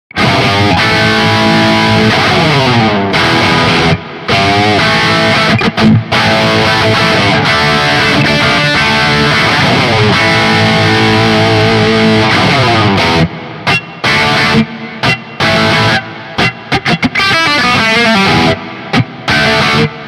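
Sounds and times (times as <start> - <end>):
distorted electric guitar: 0.1 - 20.0.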